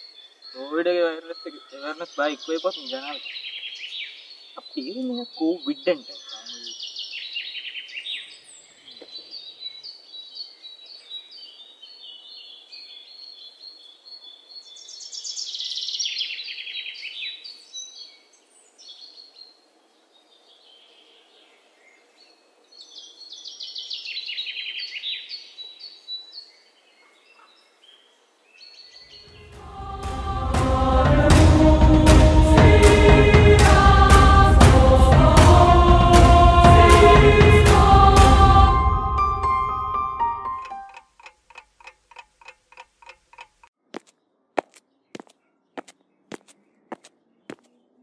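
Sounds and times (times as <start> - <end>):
birds chirping: 0.0 - 48.0
faint outdoor background: 0.0 - 48.0.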